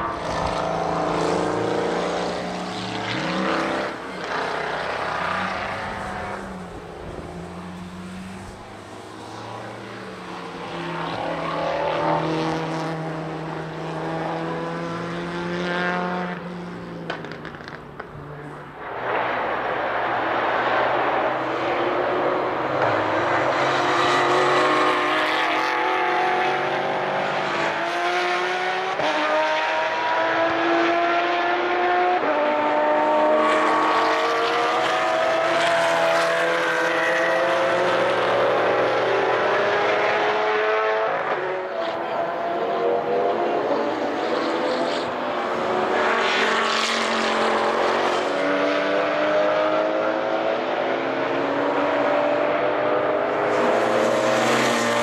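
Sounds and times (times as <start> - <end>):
race car engines accelerating: 0.0 - 55.0.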